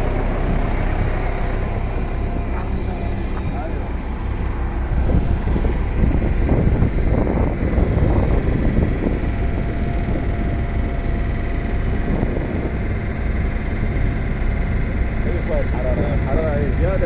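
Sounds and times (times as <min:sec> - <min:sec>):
truck engine and machinery running: 0:00.0 - 0:17.0
wind rumbling on microphone: 0:00.0 - 0:17.0.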